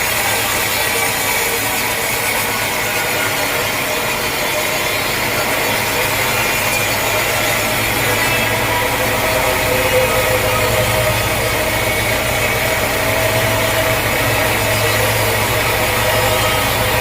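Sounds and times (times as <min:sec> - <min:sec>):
sawmill saw cutting log: 0:00.0 - 0:17.0.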